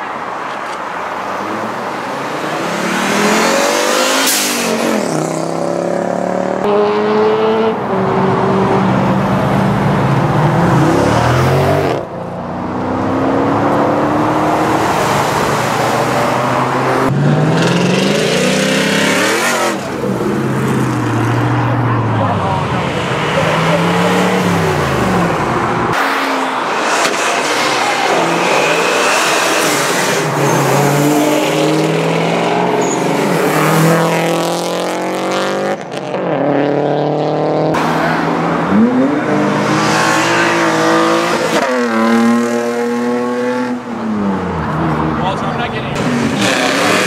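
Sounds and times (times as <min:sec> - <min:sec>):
cars accelerating hard: 0:00.0 - 0:47.0.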